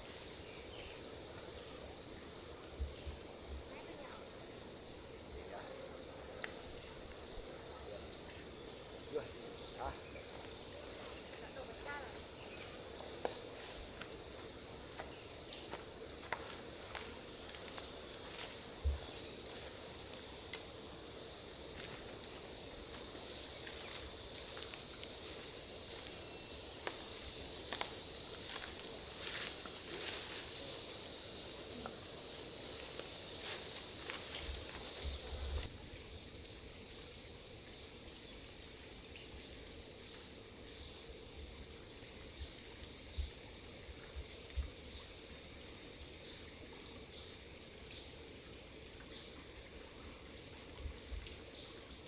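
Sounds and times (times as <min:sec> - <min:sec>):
high-pitched insect chorus: 0:00.0 - 0:52.0.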